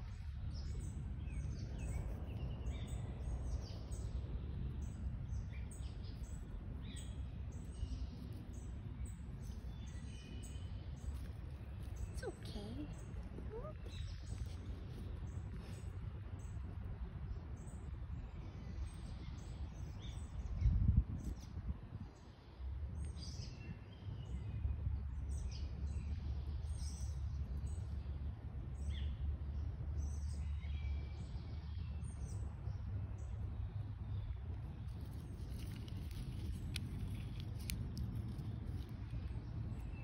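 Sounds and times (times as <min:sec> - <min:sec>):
small birds chirping: 0:00.0 - 0:21.6, 0:22.2 - 0:40.0
low outdoor rumble: 0:00.0 - 0:40.0.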